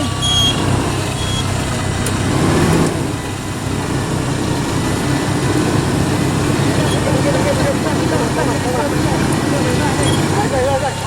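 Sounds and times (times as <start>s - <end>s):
off-road vehicle engine idling: 0.0s - 11.0s.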